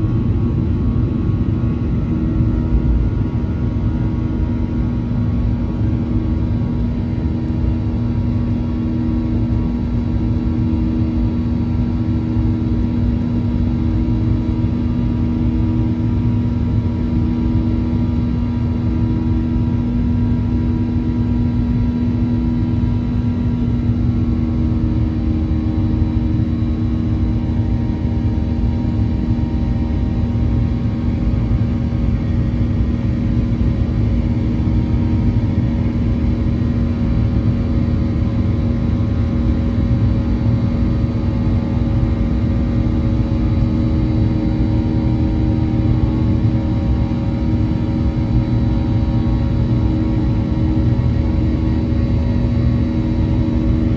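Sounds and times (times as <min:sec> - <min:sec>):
jet airliner cabin engine drone: 0:00.0 - 0:53.9.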